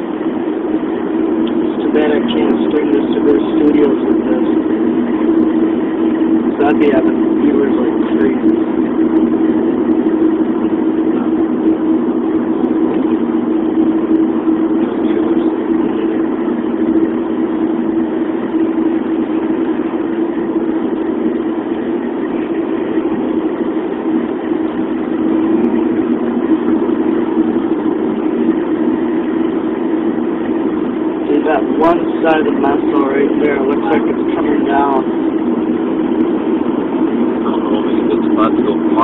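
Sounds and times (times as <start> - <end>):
car driving at highway speed: 0.0 - 39.0.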